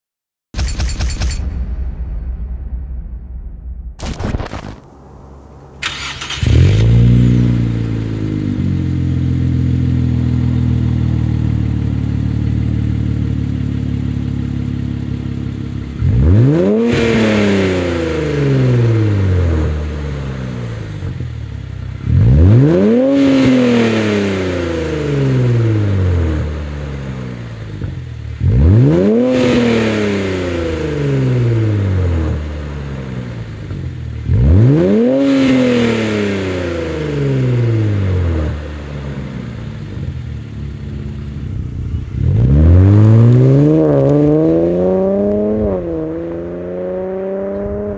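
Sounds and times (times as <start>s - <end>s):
car engine starting and idling: 4.9s - 47.9s
car engine revving: 5.8s - 47.9s.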